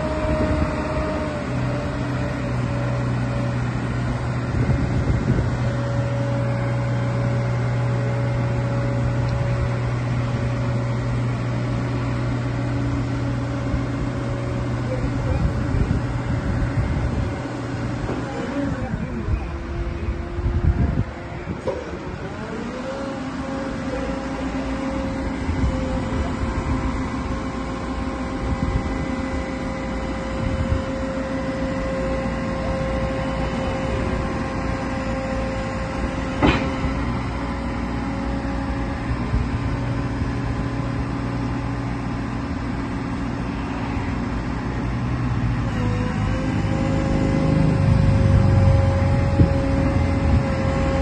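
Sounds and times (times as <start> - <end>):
diesel engine running: 0.0 - 51.0
hydraulic whine: 0.0 - 51.0.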